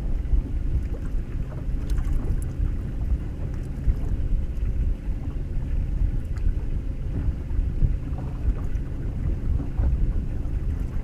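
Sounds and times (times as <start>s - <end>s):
water against boat hull: 0.0s - 11.0s
wind buffeting microphone: 0.0s - 11.0s.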